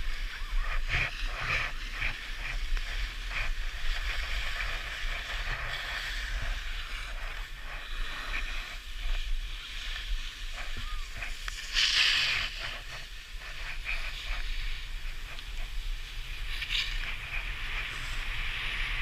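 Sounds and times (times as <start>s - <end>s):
skis scraping over snow: 0.0s - 19.0s
wind rumble on microphone: 0.0s - 19.0s.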